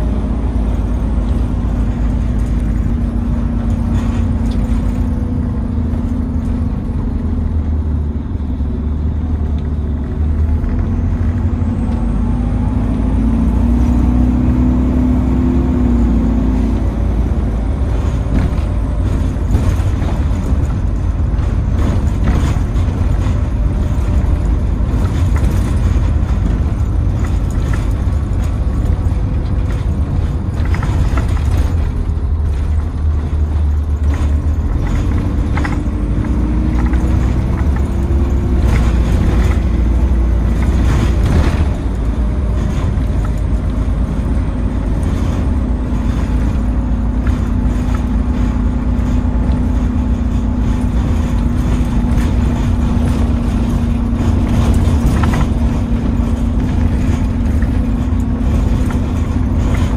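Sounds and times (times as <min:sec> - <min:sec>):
bus engine and road rumble: 0:00.0 - 0:59.9
rattles and clicks: 0:00.0 - 0:59.9.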